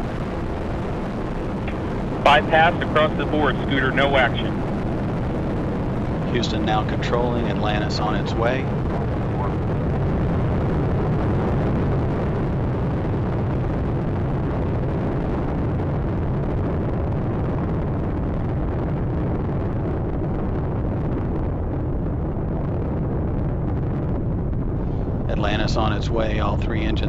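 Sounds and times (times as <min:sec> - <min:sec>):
deep rocket rumble: 0:00.0 - 0:27.0.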